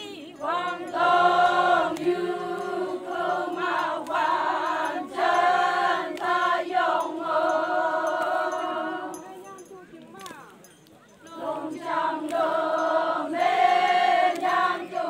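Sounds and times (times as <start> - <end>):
group singing in chorus: 0.0 - 9.3, 11.3 - 15.0.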